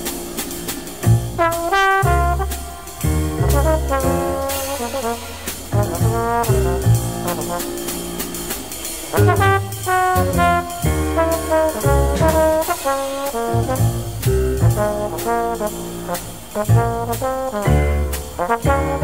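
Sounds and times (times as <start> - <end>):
bass: 0.0 - 19.0
drums with cymbals: 0.0 - 19.0
jazz horn melody: 0.0 - 19.0
piano: 0.0 - 19.0.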